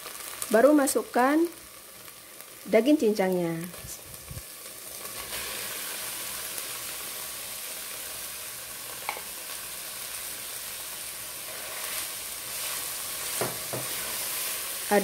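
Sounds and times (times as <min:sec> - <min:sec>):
meat sizzling in a pot: 0:00.0 - 0:15.0.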